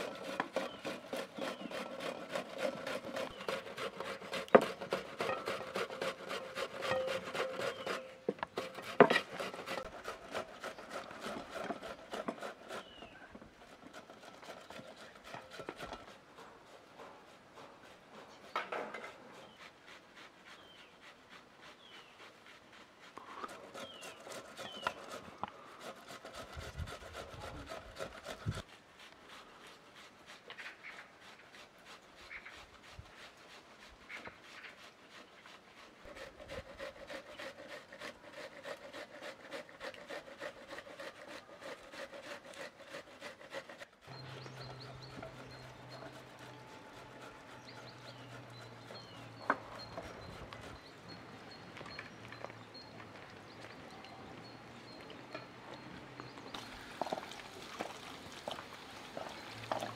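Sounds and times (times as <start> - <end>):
knife scraping and rubbing: 0.0 - 51.6.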